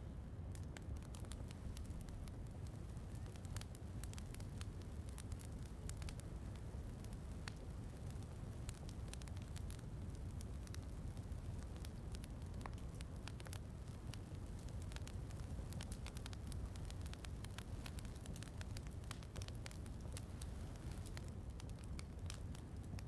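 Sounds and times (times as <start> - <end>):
wood fire crackling and snapping: 0.0 - 23.0.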